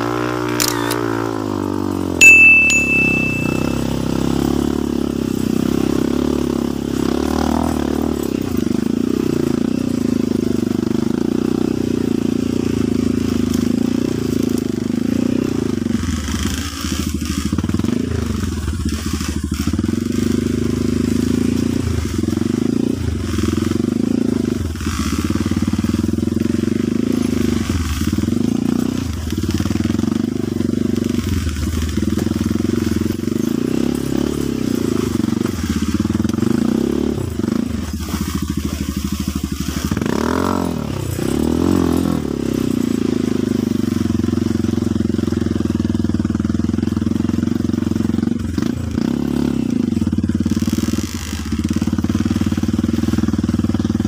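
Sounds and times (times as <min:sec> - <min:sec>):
dirt bike engine revving: 0:00.0 - 0:45.5.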